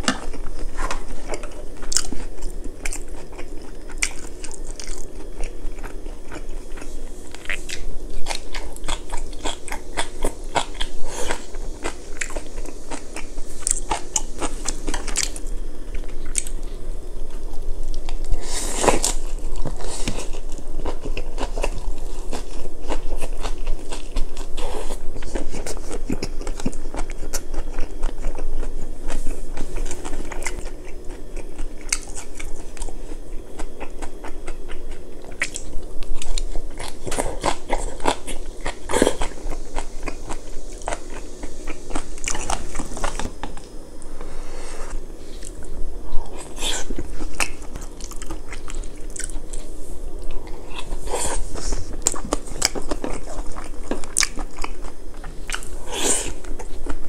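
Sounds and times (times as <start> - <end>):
man chewing and biting food: 0.0 - 57.0.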